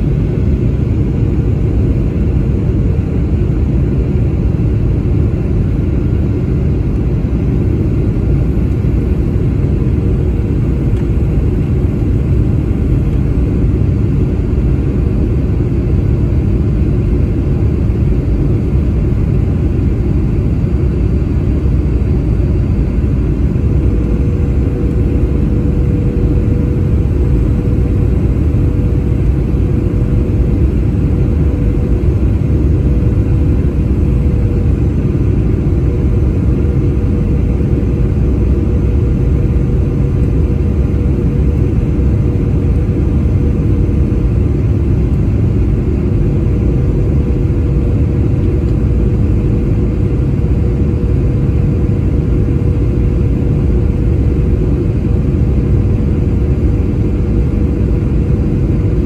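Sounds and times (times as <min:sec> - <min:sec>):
jet engines rumbling: 0:00.0 - 0:59.0
steady hum: 0:00.0 - 0:59.0.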